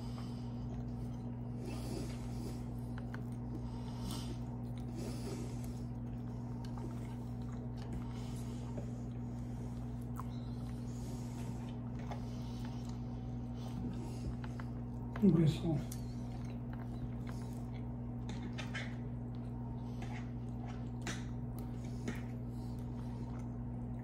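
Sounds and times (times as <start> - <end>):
person chewing food: 0.0 - 15.3, 15.9 - 24.0
steady low hum: 0.0 - 24.0.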